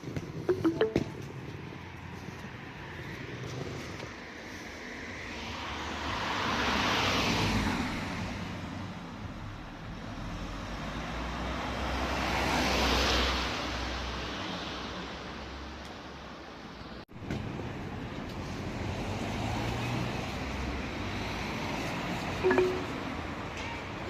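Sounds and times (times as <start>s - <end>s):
cars passing: 0.3s - 16.3s, 17.3s - 24.0s.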